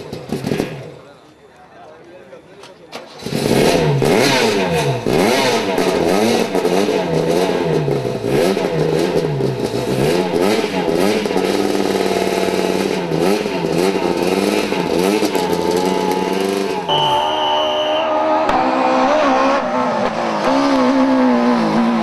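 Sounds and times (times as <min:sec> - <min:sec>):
engine crackles: 0:00.0 - 0:22.0
rally car engine revving: 0:03.1 - 0:22.0.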